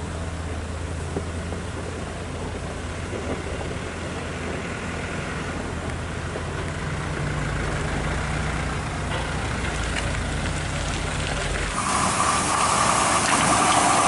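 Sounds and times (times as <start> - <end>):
truck diesel engine: 0.0 - 14.0.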